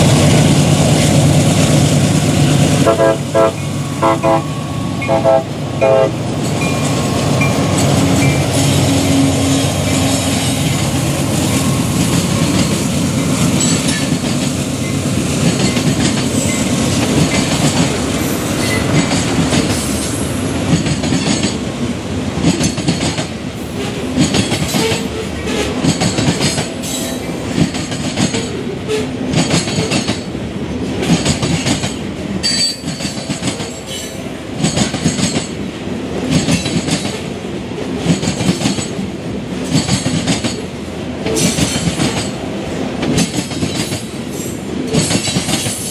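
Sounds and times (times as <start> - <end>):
train wheels clattering over rails: 0.0 - 5.2, 6.2 - 45.9.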